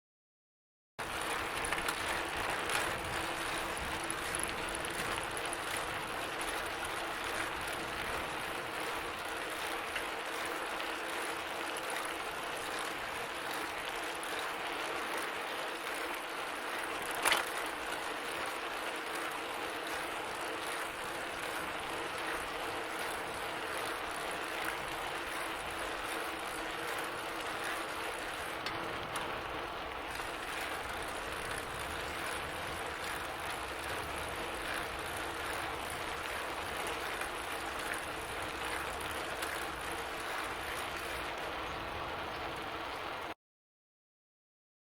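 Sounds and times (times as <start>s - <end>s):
bicycle chain whirring: 1.0s - 43.3s.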